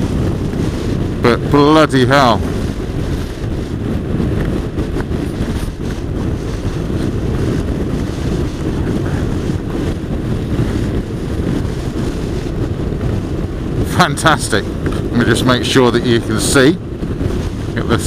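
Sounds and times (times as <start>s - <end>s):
motorcycle road noise: 0.0s - 18.0s
wind buffeting microphone: 0.0s - 18.0s.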